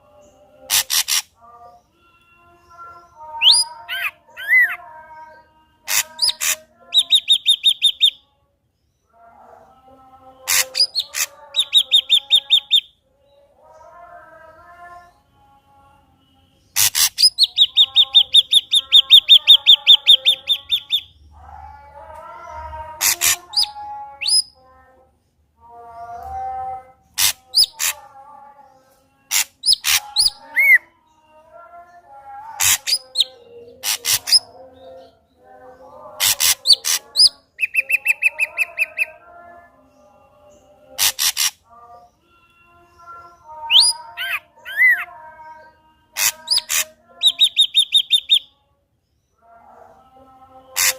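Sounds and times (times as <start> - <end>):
bird singing varied song: 0.0 - 50.9.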